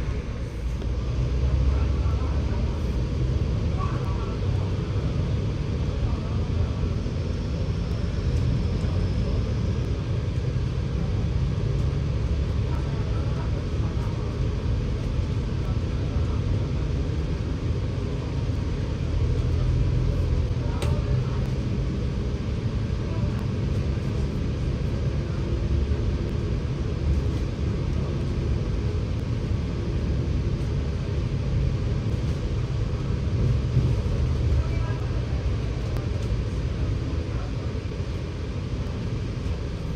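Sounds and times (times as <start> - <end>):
bus diesel engine droning: 0.0 - 39.9
road noise: 0.0 - 39.9.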